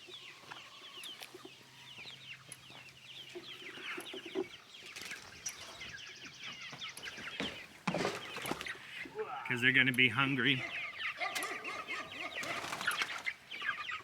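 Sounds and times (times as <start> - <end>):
chickens clucking and peeping: 0.0 - 14.0.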